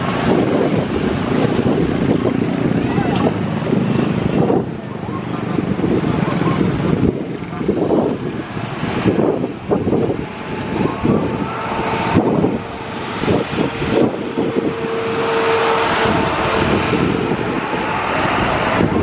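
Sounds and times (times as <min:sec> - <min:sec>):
jet engines running: 0:00.0 - 0:19.0
wind gusts on microphone: 0:00.0 - 0:19.0.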